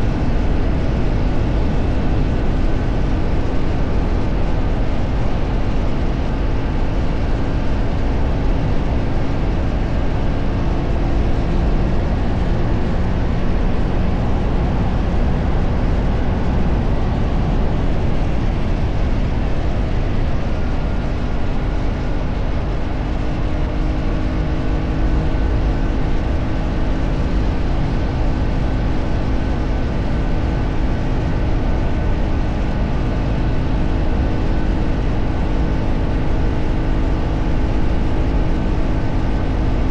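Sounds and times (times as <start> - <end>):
faint engine hum: 0.0 - 39.9
wind and road rumble: 0.0 - 39.9.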